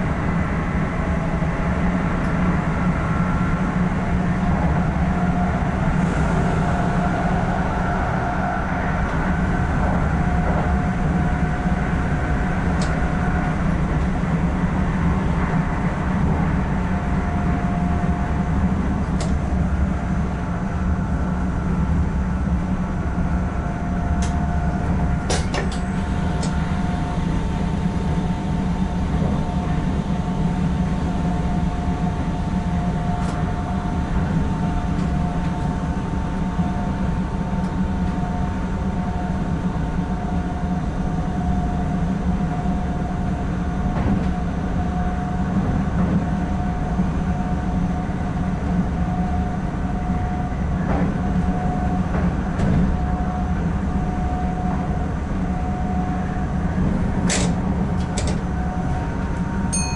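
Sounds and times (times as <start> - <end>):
steady humming tones: 0.0 - 59.9
train rumble: 0.0 - 59.9.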